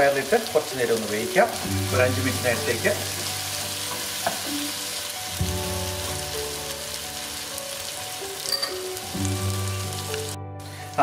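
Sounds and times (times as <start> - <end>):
background music of held chords: 0.0 - 11.0
curry sizzling in a pan: 0.0 - 11.0.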